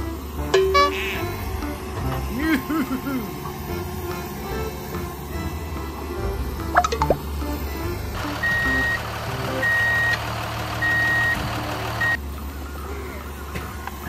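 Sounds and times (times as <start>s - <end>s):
truck reversing alarm beeping: 0.0s - 1.5s, 2.3s - 12.2s
truck engine: 0.0s - 14.0s.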